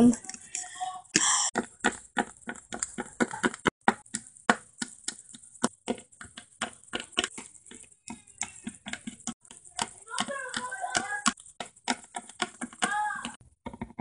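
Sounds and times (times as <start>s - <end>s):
plastic figures tapping on surface: 1.2s - 14.0s.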